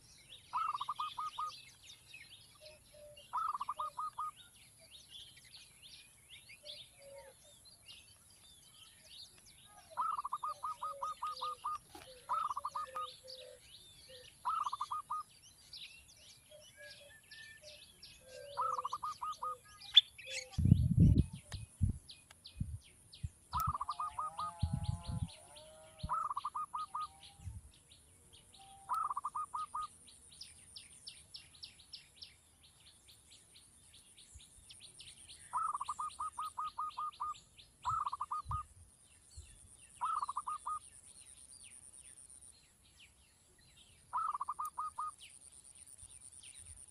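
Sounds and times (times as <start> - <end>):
birds chattering: 0.0 - 46.9
faint high ticking bird calls: 0.0 - 46.9.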